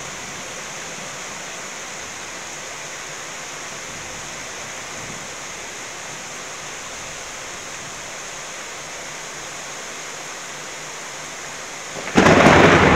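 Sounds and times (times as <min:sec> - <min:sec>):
rushing hiss of water: 0:00.0 - 0:12.9.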